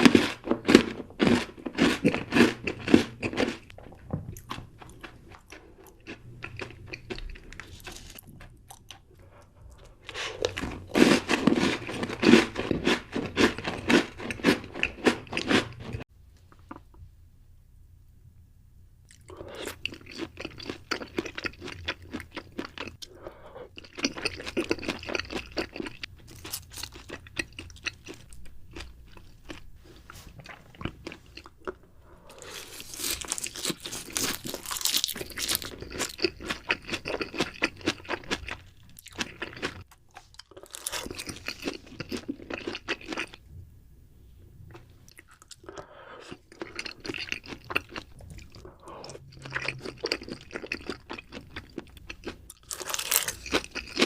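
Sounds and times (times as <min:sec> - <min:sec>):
person chewing crisp food: 0:00.0 - 0:16.0, 0:19.1 - 0:43.5, 0:44.7 - 0:54.0.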